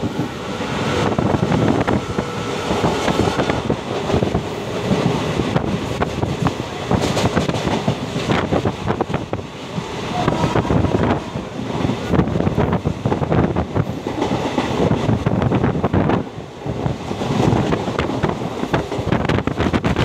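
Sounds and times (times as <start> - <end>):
train wheels rumbling on rails: 0.0 - 20.0
wind: 0.0 - 20.0.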